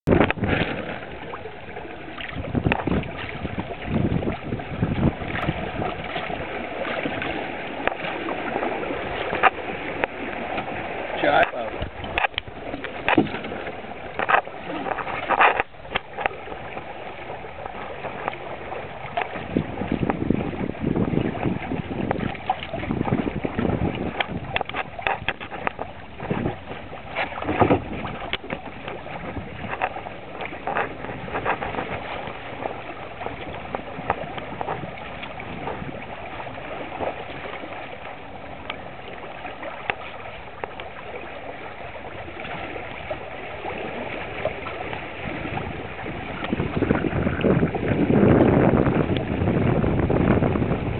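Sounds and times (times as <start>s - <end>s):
wind gusting on microphone: 0.0s - 7.5s, 8.4s - 37.8s, 43.7s - 50.9s
water rushing along hulls: 0.0s - 50.9s.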